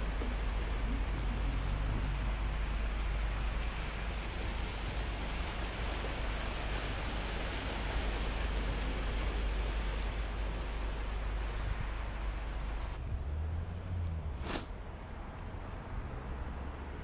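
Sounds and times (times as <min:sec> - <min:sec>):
car tyres splashing through water: 0:00.0 - 0:17.0.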